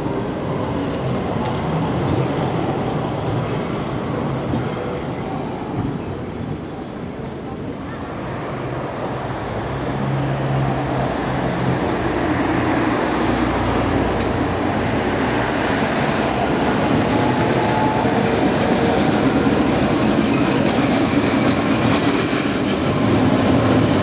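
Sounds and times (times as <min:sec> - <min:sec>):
tram running on track: 0:00.0 - 0:24.0.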